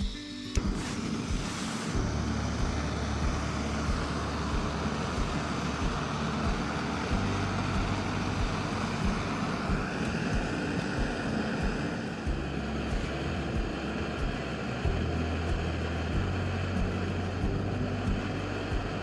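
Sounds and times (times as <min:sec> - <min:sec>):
gas stove hissing: 0:00.0 - 0:19.0.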